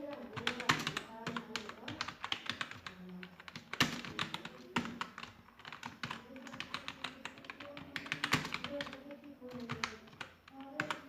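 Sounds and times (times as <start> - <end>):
fast typing on computer keyboard: 0.0 - 11.0.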